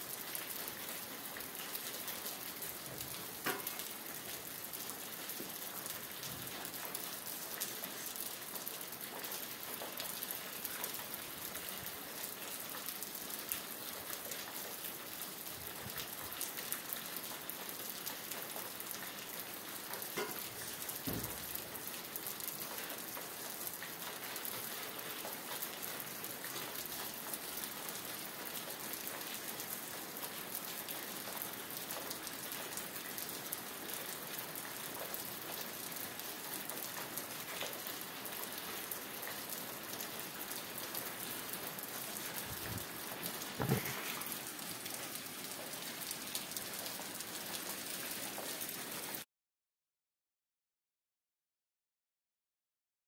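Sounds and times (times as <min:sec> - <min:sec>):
steady rain pattering: 0:00.0 - 0:49.3.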